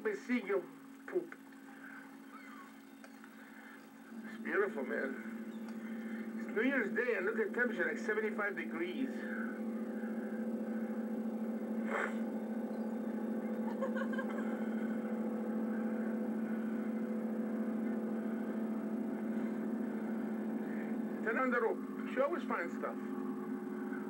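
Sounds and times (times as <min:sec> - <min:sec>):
motor hum: 0:00.0 - 0:24.0.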